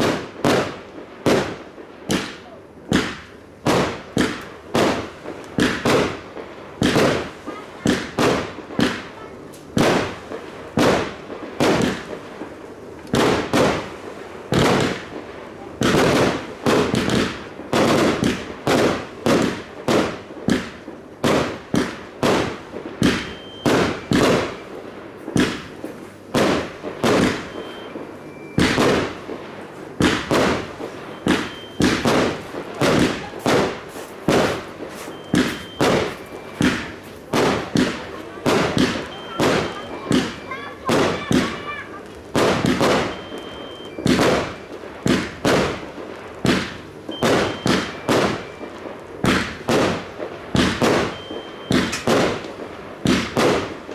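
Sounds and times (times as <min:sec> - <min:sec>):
fireworks bursting with loud bangs: 0:00.0 - 0:53.9.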